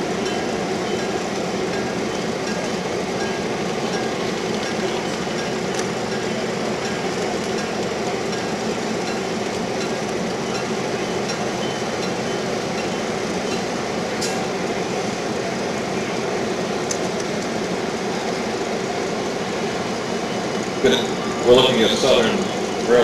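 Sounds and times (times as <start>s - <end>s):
diesel locomotive rumbling: 0.0s - 23.0s.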